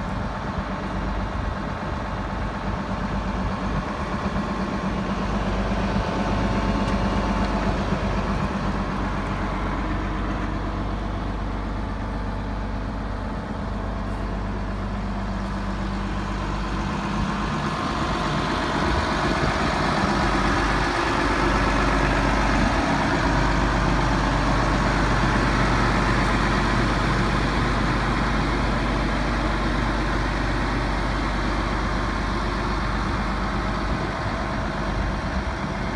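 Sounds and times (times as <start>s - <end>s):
tractor diesel engine idling: 0.0s - 35.9s.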